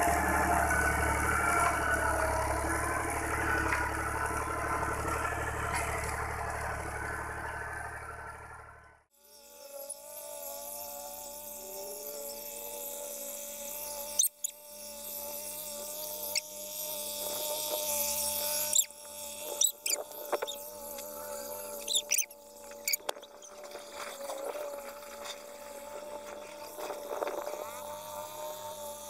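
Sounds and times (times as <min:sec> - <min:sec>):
high squeaky tractor whine: 0:00.0 - 0:09.0, 0:14.0 - 0:29.0.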